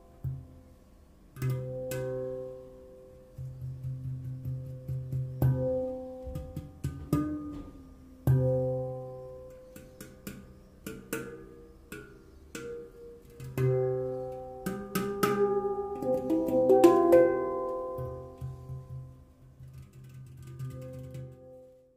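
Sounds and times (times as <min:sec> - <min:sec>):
handpan notes ringing: 0:00.0 - 0:21.9.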